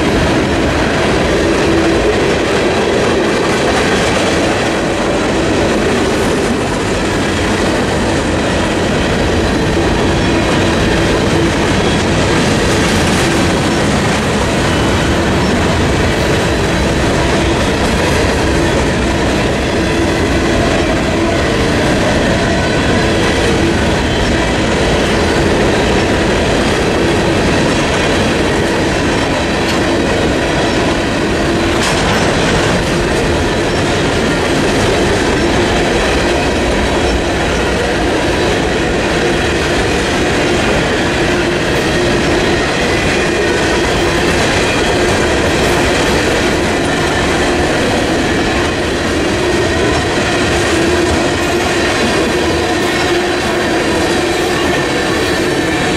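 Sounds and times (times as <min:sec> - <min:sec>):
steel wheels rolling on rails: 0:00.0 - 0:55.9.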